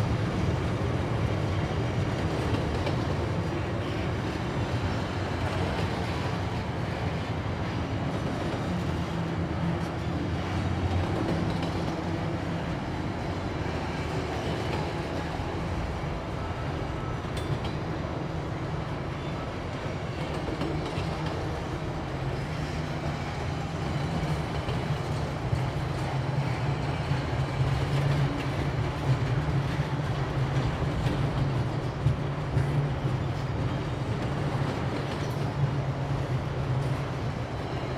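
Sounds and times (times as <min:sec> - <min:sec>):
train engines and rolling wheels: 0:00.0 - 0:37.9.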